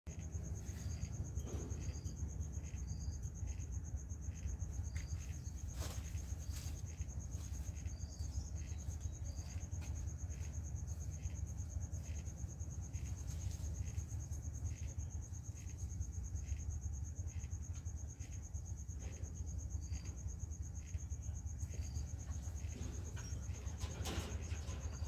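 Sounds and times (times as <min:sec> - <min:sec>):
insects trilling: 0:00.1 - 0:25.0.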